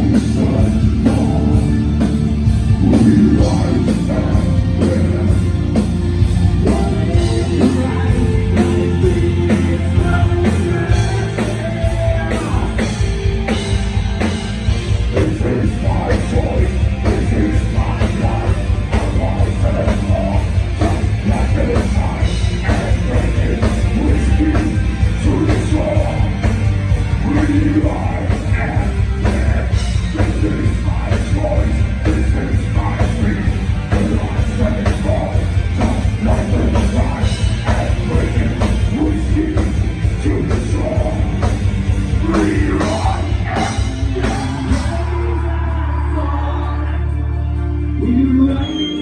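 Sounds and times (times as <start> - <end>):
man singing: 0.0 - 5.8, 6.4 - 13.1, 14.9 - 41.5, 42.1 - 47.2, 47.8 - 49.0
heavy metal band playing: 0.0 - 49.0.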